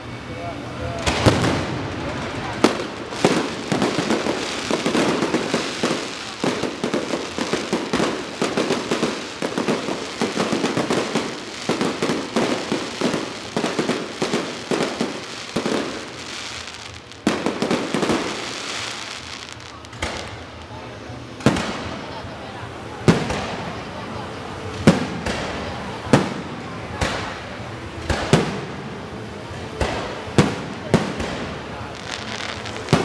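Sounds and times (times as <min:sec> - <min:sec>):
firecrackers crackling and popping: 0:00.0 - 0:33.0
sharp firework crack: 0:00.8 - 0:33.0.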